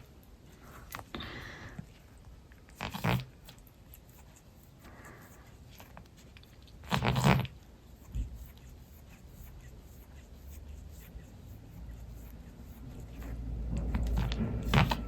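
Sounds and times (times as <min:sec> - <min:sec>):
cat grooming sounds: 0:00.0 - 0:15.0.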